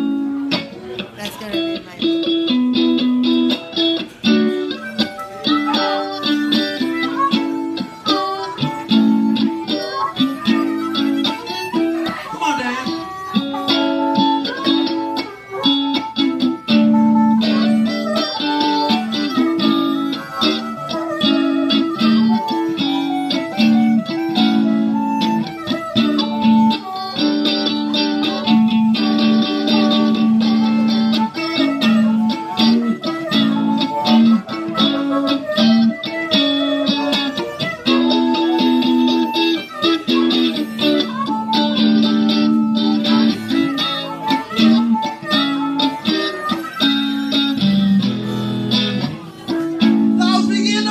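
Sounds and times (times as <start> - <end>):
amplified harmonica: 0.0 - 50.9
electric guitar blues riff: 0.0 - 50.9.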